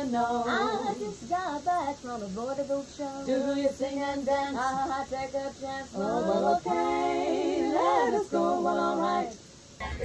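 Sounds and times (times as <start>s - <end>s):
women singing a cappella: 0.0s - 10.0s.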